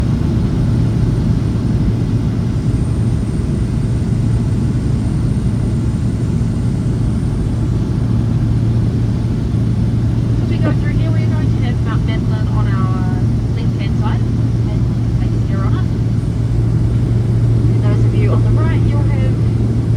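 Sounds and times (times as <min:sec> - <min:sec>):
light aircraft engine droning: 0:00.0 - 0:19.9.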